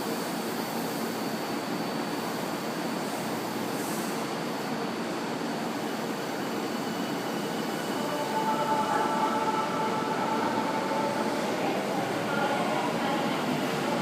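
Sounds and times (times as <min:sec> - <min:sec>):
electric train whine: 0:00.0 - 0:14.0
train rushing noise: 0:01.6 - 0:14.0.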